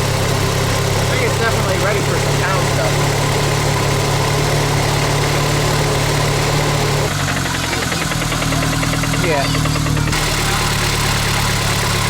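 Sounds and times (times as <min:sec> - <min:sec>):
fast engine ticking: 0:00.0 - 0:12.0
truck engine idling: 0:00.0 - 0:12.0.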